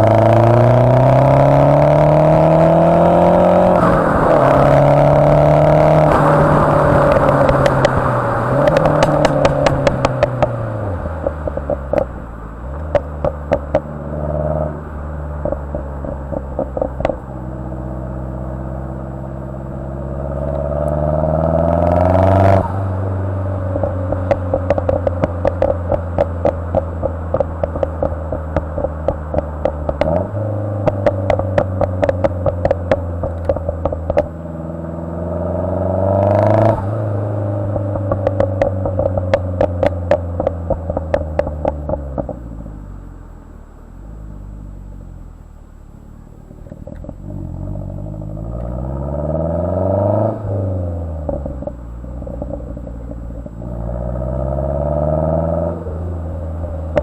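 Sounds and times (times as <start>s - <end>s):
car engine revving: 0.0s - 57.0s
exhaust pops and crackles: 0.0s - 57.0s.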